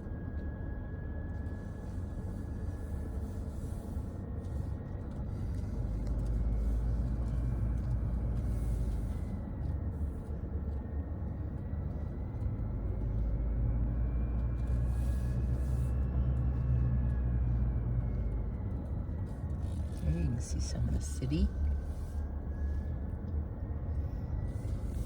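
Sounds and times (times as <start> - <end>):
car engine and tyres rumbling: 0.0 - 25.0
faint whine: 0.0 - 25.0.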